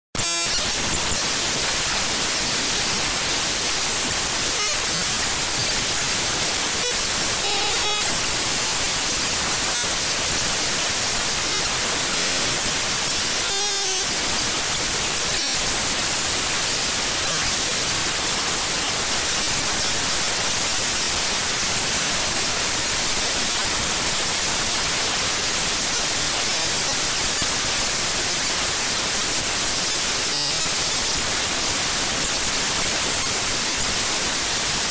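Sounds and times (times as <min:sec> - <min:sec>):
static hiss: 0:00.2 - 0:34.9.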